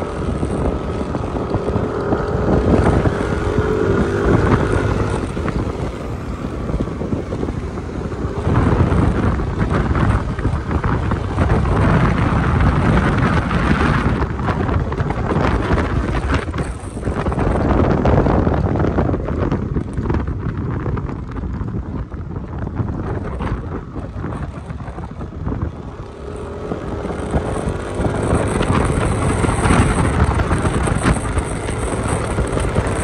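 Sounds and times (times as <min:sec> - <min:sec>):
scooter engine running: 0:00.0 - 0:33.0
wind buffeting microphone: 0:00.0 - 0:33.0.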